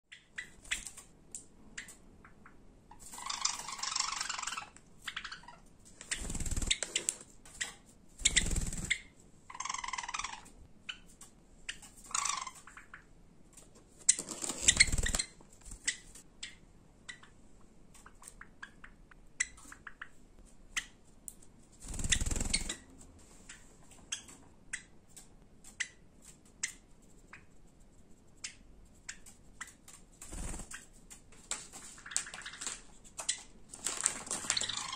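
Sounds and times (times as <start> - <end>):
sparrows clicking and chirping: 0.1 - 13.2, 13.9 - 34.9.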